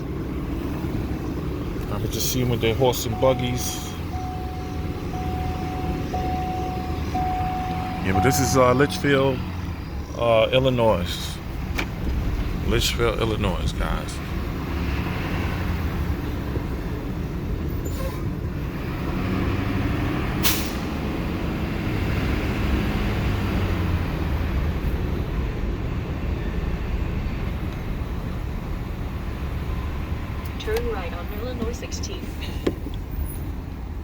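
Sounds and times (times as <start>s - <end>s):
truck engine and road noise: 0.0s - 34.0s.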